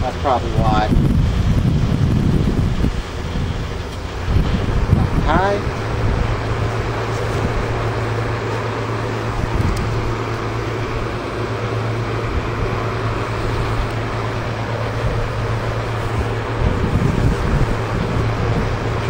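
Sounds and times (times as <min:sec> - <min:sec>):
fan air rushing: 0:00.0 - 0:19.0
fan motor hum: 0:00.0 - 0:19.0.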